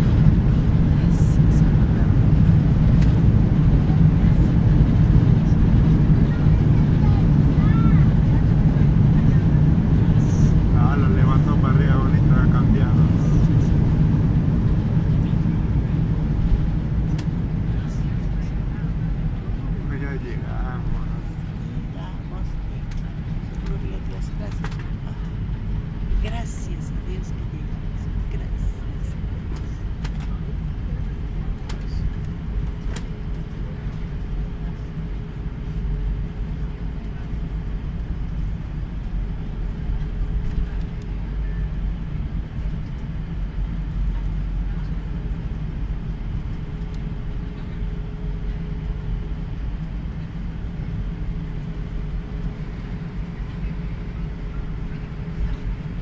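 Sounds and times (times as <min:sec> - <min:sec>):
jet cabin rumble: 0:00.0 - 0:56.0.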